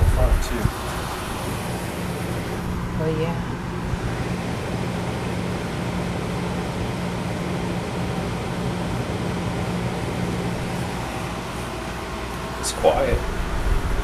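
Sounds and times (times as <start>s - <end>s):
dehumidifier fan rush: 0.0s - 14.0s.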